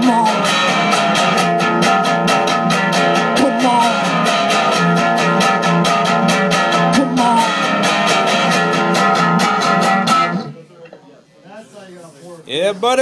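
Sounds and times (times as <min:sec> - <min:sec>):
guitar strummed fast: 0:00.0 - 0:10.6.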